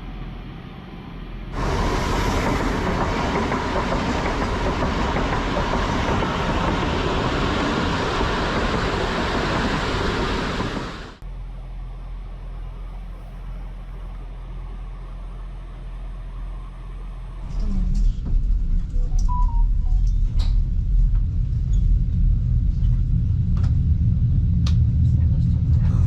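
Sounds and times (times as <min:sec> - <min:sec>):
train running on rails: 0:00.0 - 0:26.0.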